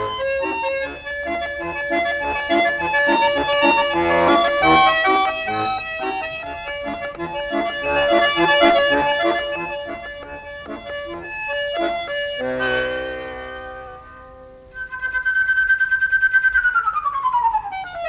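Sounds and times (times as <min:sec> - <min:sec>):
button accordion dance tune: 0:00.0 - 0:16.5.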